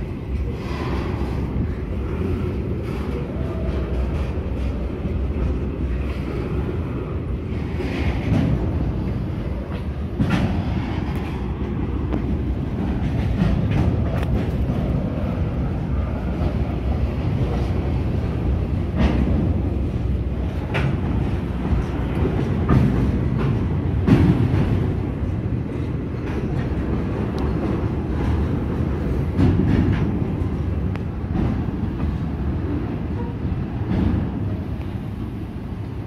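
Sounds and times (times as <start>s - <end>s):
train wheels rumbling on rails: 0.0s - 36.0s
wheels clacking over rail joints: 0.0s - 36.0s.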